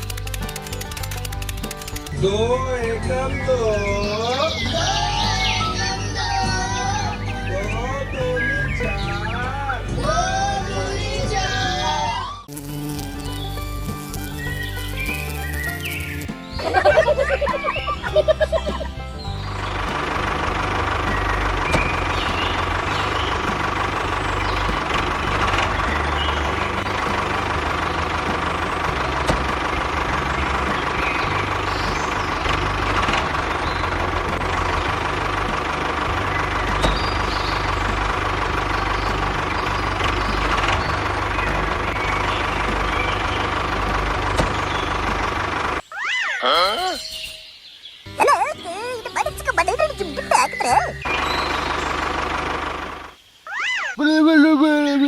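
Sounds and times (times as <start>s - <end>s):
engine idling: 0.0s - 12.5s, 13.2s - 45.8s, 49.0s - 53.2s.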